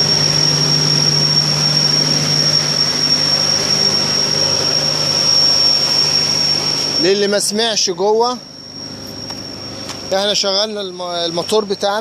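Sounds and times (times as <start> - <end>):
pump motor drone with whine: 0.0 - 12.0.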